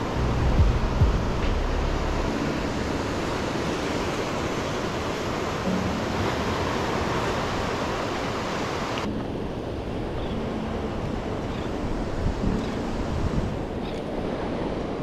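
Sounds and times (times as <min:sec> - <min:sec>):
ocean surf breaking on shore: 0:00.0 - 0:15.0
wind on microphone: 0:00.0 - 0:15.0.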